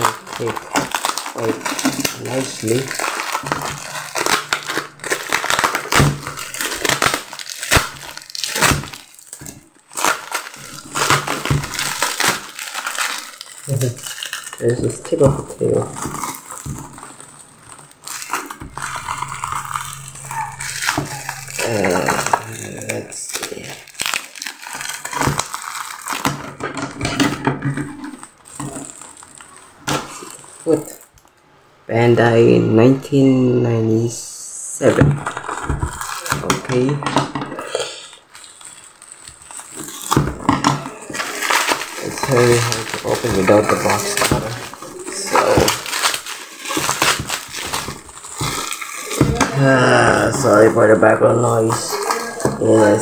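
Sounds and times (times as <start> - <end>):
bubble wrap crinkling: 0.0 - 31.4, 34.8 - 53.0.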